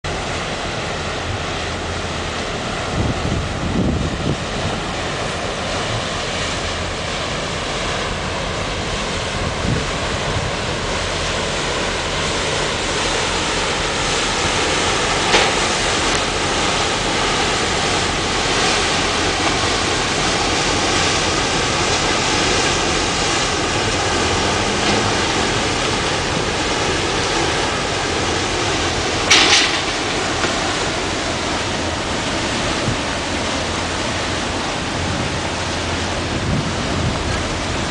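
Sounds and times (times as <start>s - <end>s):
choppy water: 0.0s - 37.9s
ship engine drone and bow wash: 0.0s - 37.9s.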